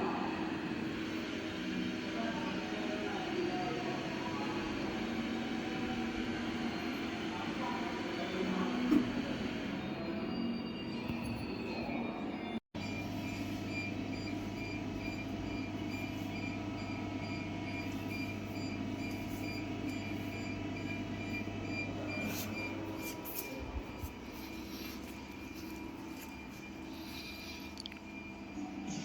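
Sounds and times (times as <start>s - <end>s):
lathe machine hum: 0.0s - 10.3s, 12.8s - 29.0s.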